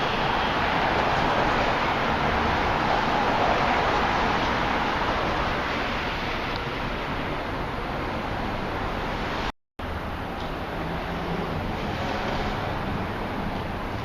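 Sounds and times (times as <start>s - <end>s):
city traffic: 0.0s - 14.0s.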